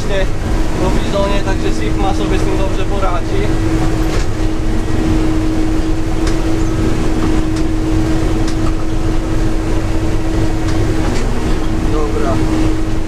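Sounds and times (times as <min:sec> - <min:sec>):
constant drone tone: 0:00.0 - 0:13.0
engine and machinery rumble: 0:00.0 - 0:13.0.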